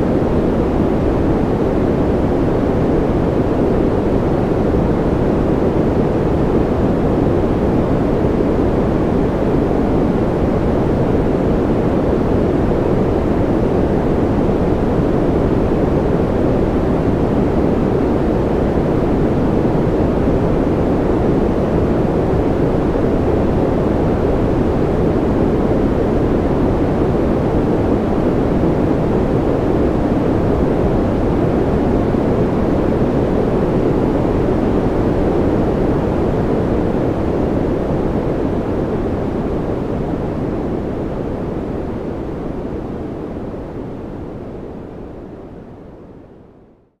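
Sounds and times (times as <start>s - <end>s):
deep white noise: 0.0s - 47.0s.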